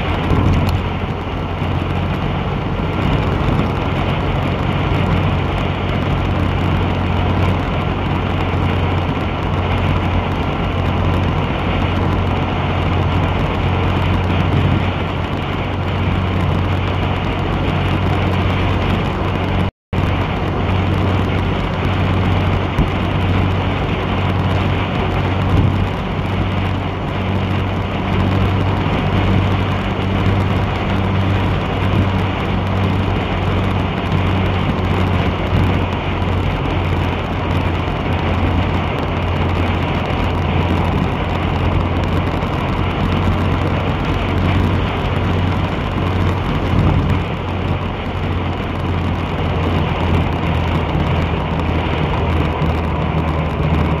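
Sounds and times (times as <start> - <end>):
road and wind noise: 0.0 - 54.0
vehicle engine hum: 0.0 - 54.0.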